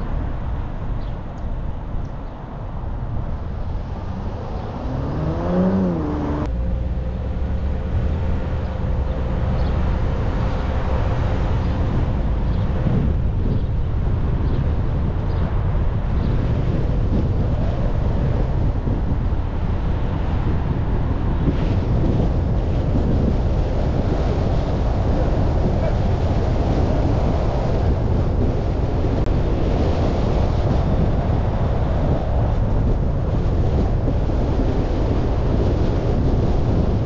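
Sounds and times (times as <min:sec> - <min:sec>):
car road rumble and wind rush: 0:00.0 - 0:37.0
wind buffeting microphone: 0:00.0 - 0:37.0.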